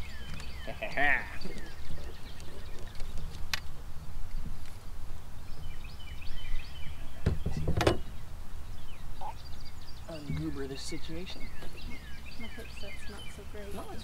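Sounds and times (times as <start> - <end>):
bird chirps: 0.0 - 4.6, 5.4 - 14.0.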